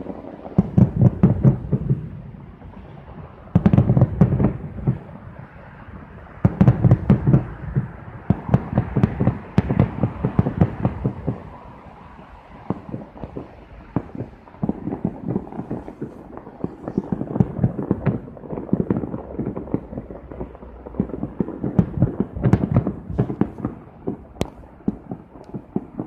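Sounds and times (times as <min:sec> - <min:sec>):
fireworks cracking and popping: 0:00.0 - 0:26.0
fireworks rumbling: 0:00.0 - 0:26.0.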